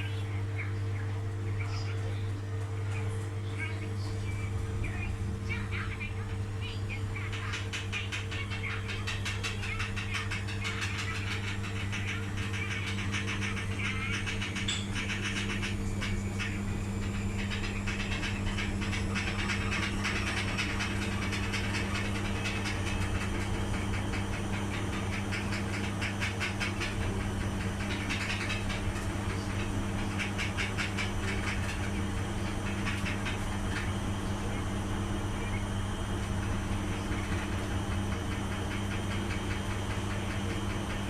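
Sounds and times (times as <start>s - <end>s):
washing machine running: 0.0s - 41.0s.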